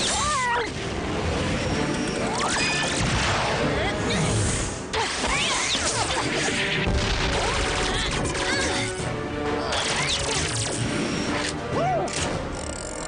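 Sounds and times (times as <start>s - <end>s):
cartoon action music: 0.0s - 13.0s.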